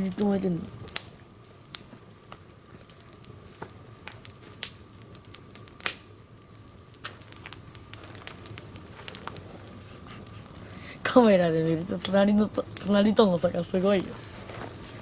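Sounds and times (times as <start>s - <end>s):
crackling pops of burning wood: 0.0s - 15.0s
log fire hissing: 0.0s - 15.0s.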